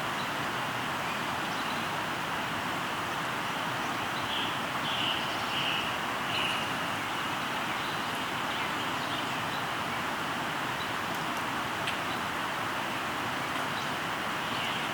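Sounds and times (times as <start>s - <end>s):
river flowing: 0.0s - 14.9s.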